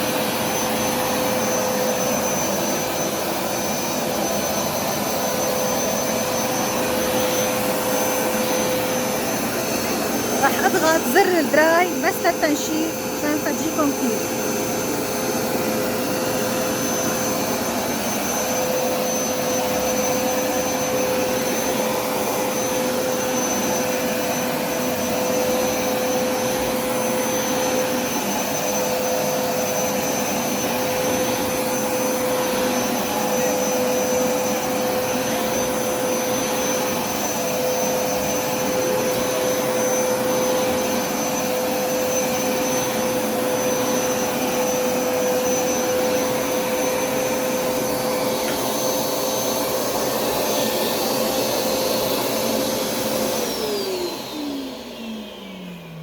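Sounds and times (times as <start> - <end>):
carpet washer suction motor running: 0.0 - 56.0.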